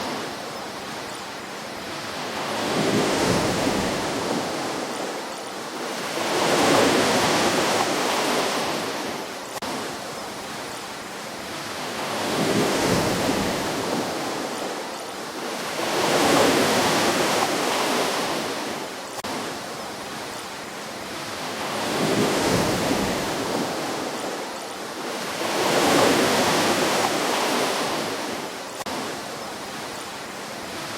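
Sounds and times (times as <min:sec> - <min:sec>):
ocean waves washing ashore: 0:00.0 - 0:30.9.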